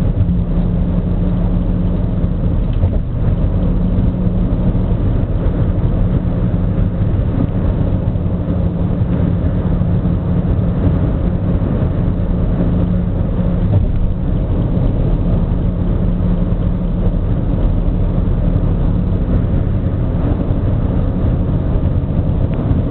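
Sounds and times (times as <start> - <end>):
car cabin road rumble: 0.0 - 22.9.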